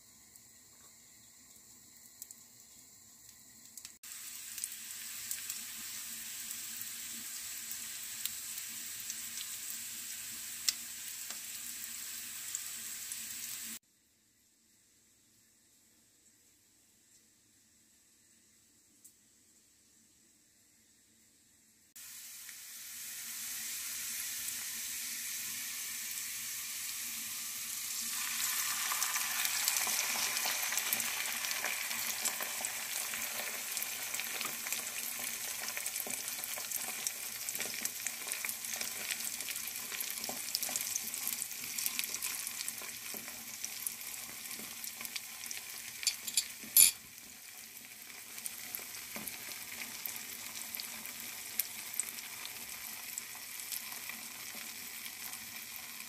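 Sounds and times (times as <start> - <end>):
meat sizzling in oil: 2.8 - 13.8, 22.0 - 56.0.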